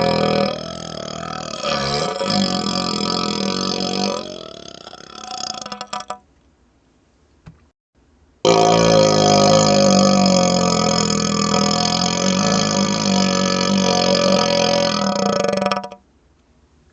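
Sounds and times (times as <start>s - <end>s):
burp through hollow tube: 0.0s - 6.2s, 8.5s - 16.0s.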